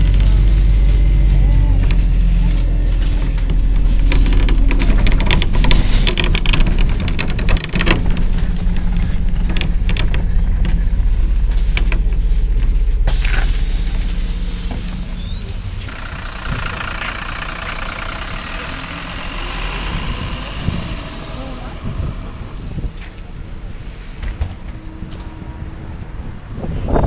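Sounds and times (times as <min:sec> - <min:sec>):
bus body rattling: 0:00.0 - 0:27.0
bus diesel engine rumble: 0:00.0 - 0:27.0.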